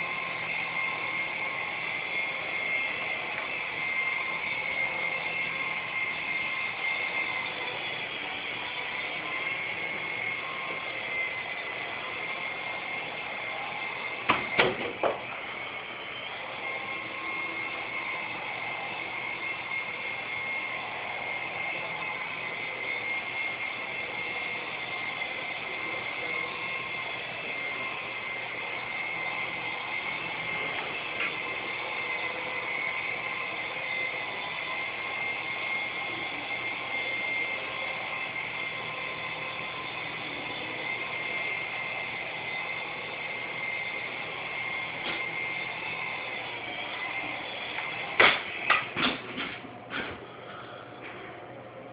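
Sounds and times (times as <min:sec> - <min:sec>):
toy helicopter rotors whining: 0:00.0 - 0:50.9.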